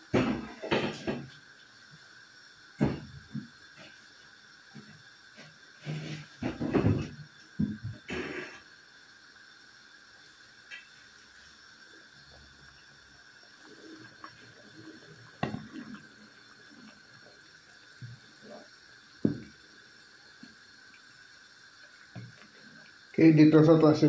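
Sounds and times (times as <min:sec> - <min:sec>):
soup bubbling in a pot: 0:00.0 - 0:24.0.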